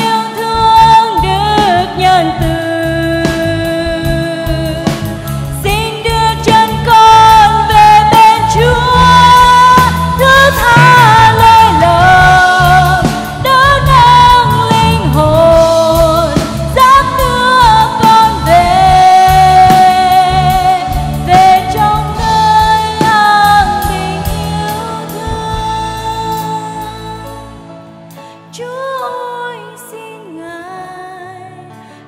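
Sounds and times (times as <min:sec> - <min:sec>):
band accompaniment: 0:00.0 - 0:29.1
woman singing: 0:00.0 - 0:32.0.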